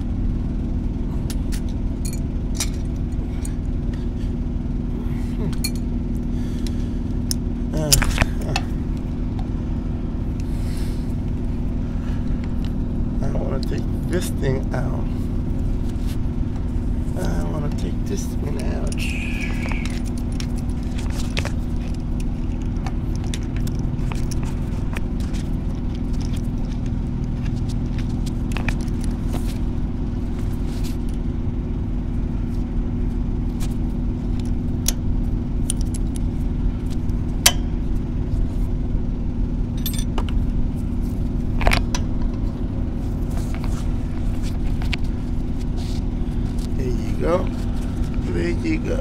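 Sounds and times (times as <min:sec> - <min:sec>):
low engine drone: 0:00.0 - 0:49.0.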